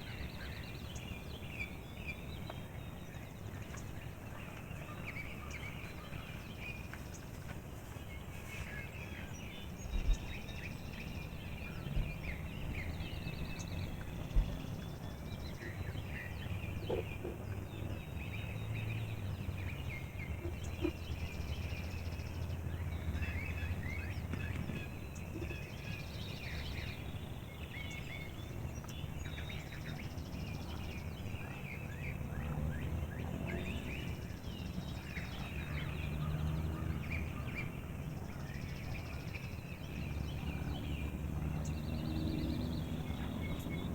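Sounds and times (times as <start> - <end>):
songbirds chirping: 0.0 - 43.9.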